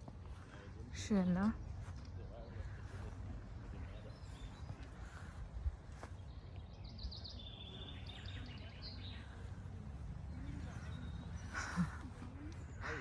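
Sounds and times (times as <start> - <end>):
songbird singing: 1.0 - 13.0.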